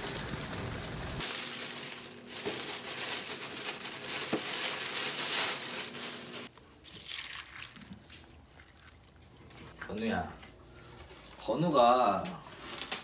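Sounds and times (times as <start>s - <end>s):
plastic bags rustling: 0.0s - 8.8s, 10.6s - 13.0s.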